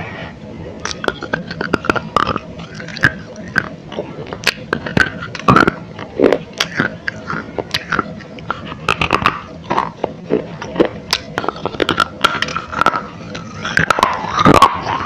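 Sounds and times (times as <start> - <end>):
clay crunching between teeth: 0.8 - 14.9.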